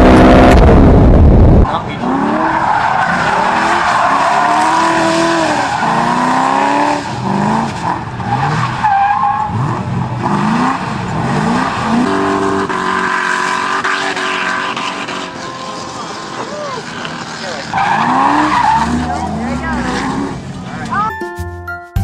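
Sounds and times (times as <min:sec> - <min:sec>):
car engine revving hard: 0:00.0 - 0:20.5.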